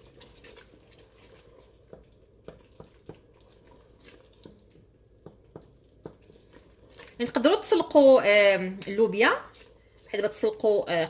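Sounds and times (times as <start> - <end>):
spoon stirring thick sauce: 0.0 - 8.1, 8.8 - 10.4.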